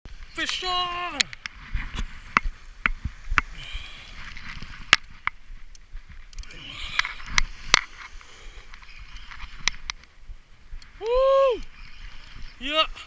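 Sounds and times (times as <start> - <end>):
hiss of wind and water: 0.1 - 13.0.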